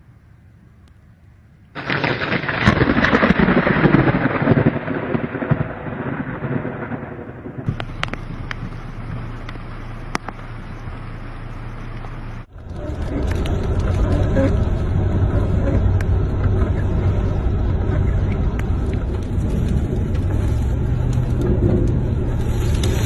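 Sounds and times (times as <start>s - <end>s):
thunder crack and rumble: 1.8s - 10.4s, 12.4s - 23.0s.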